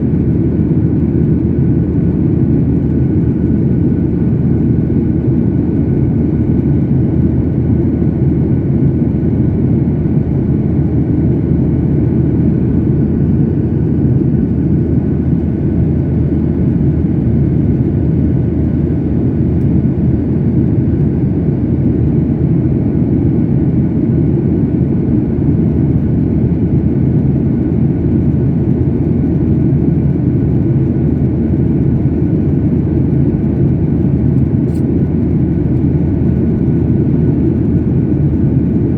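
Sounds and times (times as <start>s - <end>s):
faint steady whine: 0.0s - 38.9s
jet engines and airflow rumble: 0.0s - 38.9s.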